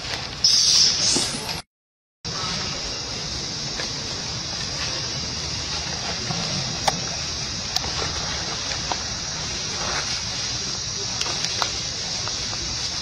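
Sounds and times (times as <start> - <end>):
high-pitched hiss: 0.4 - 1.6, 2.3 - 13.0
low rumble: 2.3 - 13.0.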